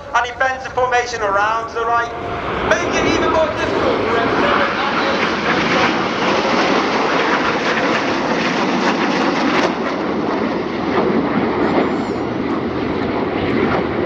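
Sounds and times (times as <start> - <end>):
aircraft flying past: 0.0 - 14.0.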